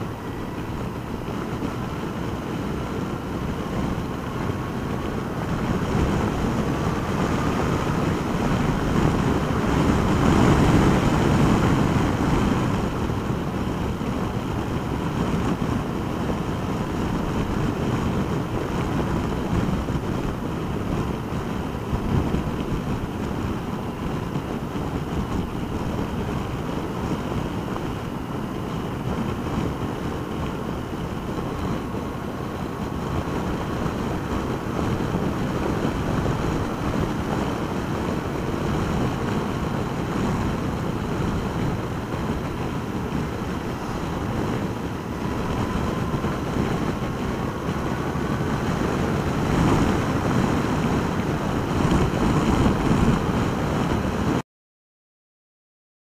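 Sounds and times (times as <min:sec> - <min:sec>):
wind rush and road noise: 0:00.0 - 0:54.4.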